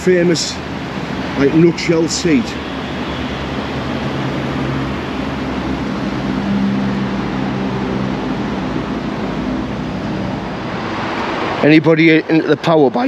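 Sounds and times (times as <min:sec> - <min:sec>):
mechanical hum: 0:00.0 - 0:12.7
low steady tones: 0:00.0 - 0:13.0
rushing background noise: 0:00.0 - 0:13.0.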